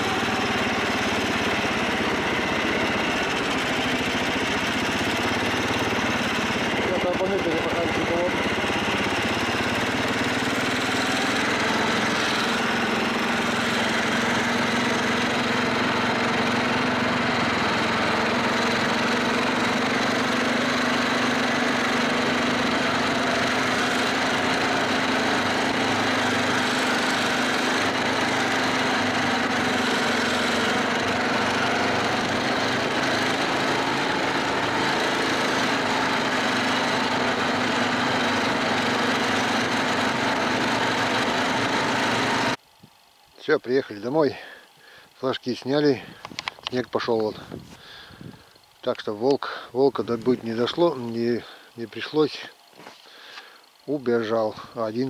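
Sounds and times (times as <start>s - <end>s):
snowmobile engine running: 0.0s - 42.6s, 45.6s - 55.0s.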